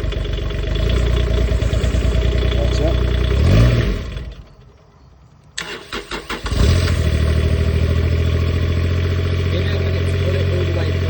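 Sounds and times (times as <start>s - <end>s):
diesel engine idling: 0.0s - 5.0s, 5.6s - 11.0s
diesel engine starter cranking: 0.0s - 11.0s.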